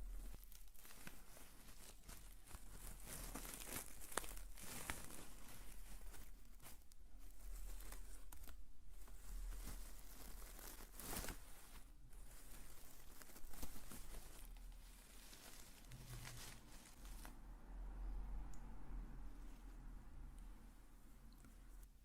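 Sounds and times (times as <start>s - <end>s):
crinkly material rustling: 0.0s - 22.0s.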